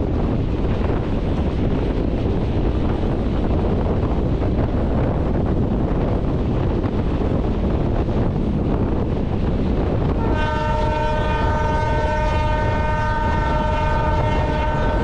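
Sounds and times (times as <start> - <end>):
train rumbling on track: 0.0 - 15.0
wind rushing over microphone: 0.0 - 15.0.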